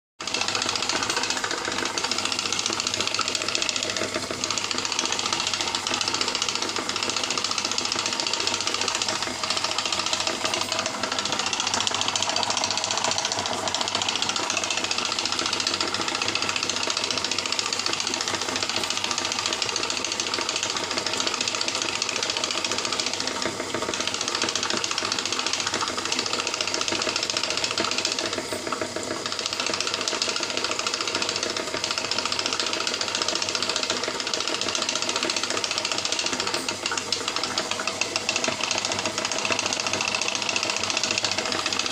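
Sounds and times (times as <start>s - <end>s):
small electric motor running: 0.2s - 41.9s.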